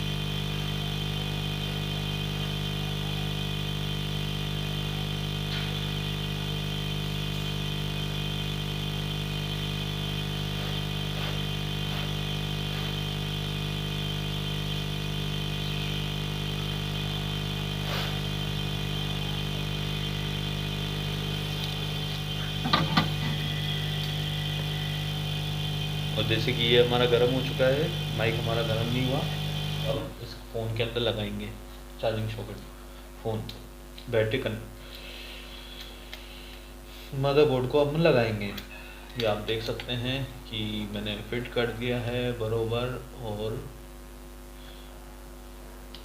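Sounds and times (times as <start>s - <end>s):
hot air station blowing with whine: 0.0s - 46.0s.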